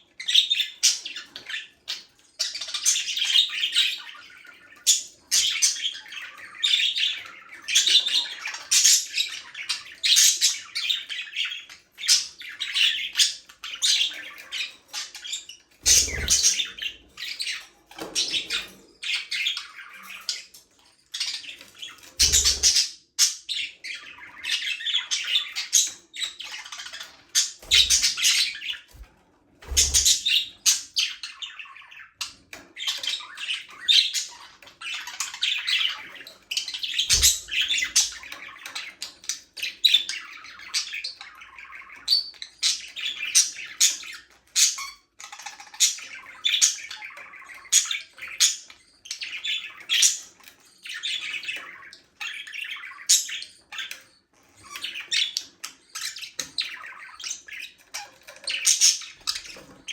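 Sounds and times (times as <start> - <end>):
budgerigars chattering: 0.2 - 20.5, 21.1 - 29.0, 29.6 - 59.9.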